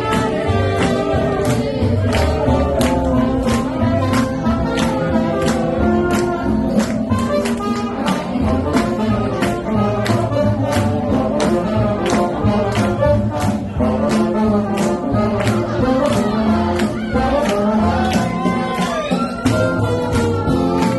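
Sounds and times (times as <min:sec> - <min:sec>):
brass section horn lines: 0:00.0 - 0:20.9.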